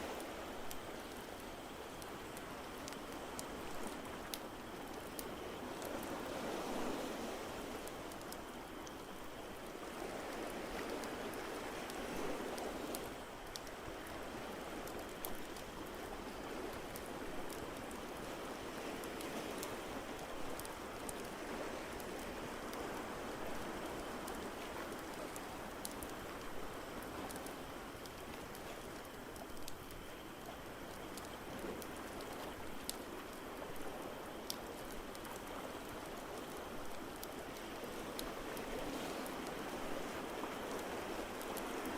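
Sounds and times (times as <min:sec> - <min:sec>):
ocean waves: 0:00.0 - 0:41.9
water noise: 0:00.0 - 0:41.9.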